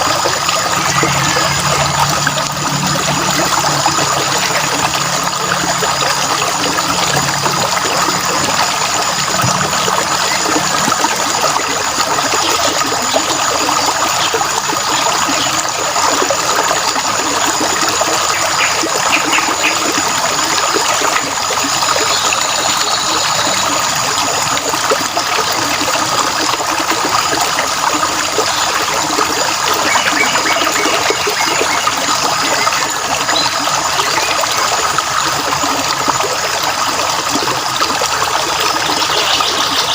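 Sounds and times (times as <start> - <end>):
water trickling and flowing: 0.0 - 39.9.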